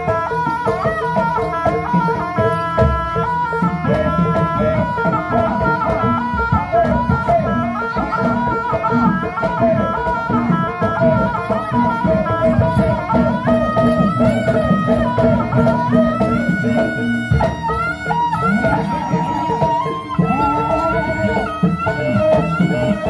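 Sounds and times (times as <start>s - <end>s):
drums and gongs beat: 0.0s - 23.0s
gamelan music: 0.0s - 23.0s
wailing melody line: 0.0s - 23.0s.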